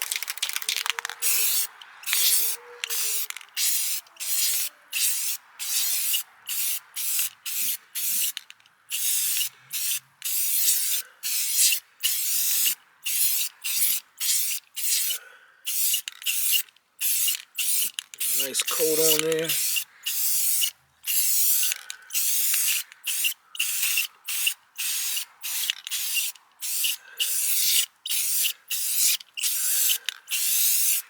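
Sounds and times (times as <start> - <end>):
spray paint can spraying: 0.0 - 31.0.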